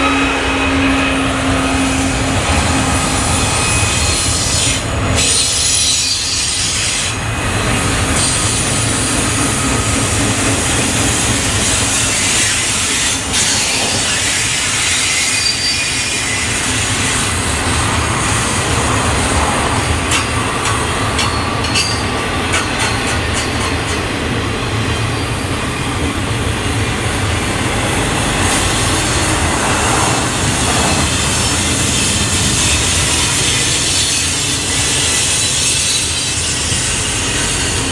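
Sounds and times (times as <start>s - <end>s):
high wheel squeal: 0.0s - 19.0s, 19.7s - 23.9s, 24.9s - 37.9s
train wheels rumbling on rail: 0.0s - 37.9s.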